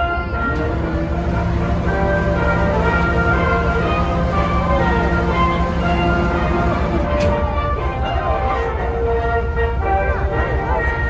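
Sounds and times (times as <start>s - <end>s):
boat engine drone: 0.0s - 11.0s
music with gliding notes: 0.0s - 11.0s.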